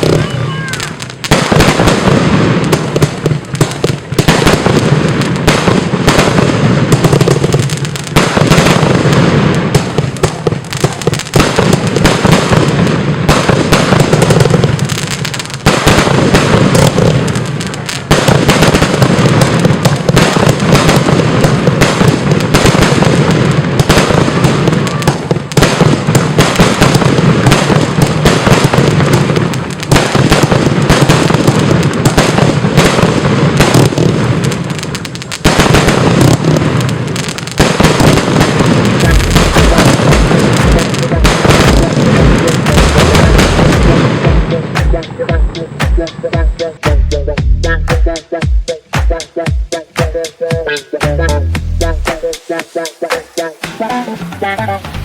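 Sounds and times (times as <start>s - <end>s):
fireworks launching and bursting: 0.0s - 55.0s.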